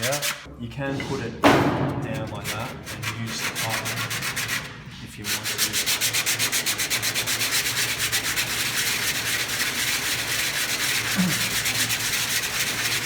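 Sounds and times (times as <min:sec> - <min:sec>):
sandpaper rubbing on wood: 0:00.0 - 0:01.2, 0:02.1 - 0:13.0.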